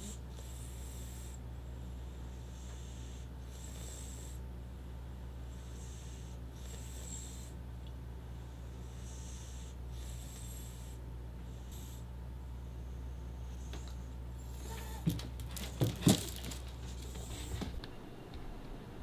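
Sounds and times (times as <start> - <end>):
cat breathing noisily: 0.0 - 15.1, 16.9 - 17.8
steady low hum: 0.0 - 19.0.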